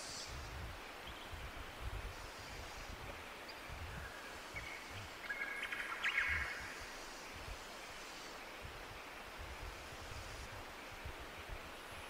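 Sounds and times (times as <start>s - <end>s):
songbird chirping: 0.0s - 9.8s.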